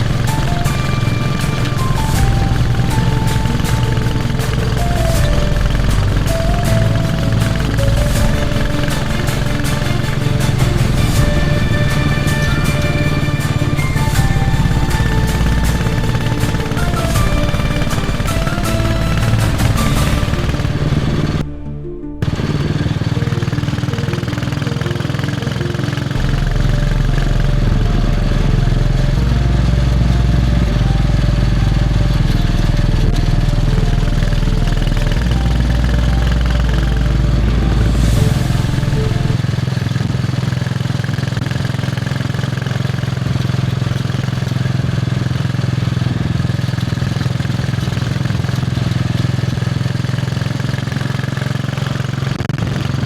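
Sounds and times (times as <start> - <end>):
motorcycle engine thumping: 0.0 - 21.5, 22.2 - 53.0.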